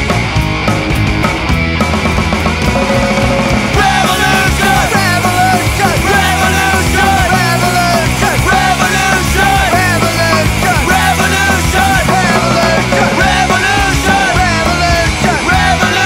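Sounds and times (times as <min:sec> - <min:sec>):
punk rock band playing: 0:00.0 - 0:16.0
sung or shouted vocals: 0:02.9 - 0:16.0.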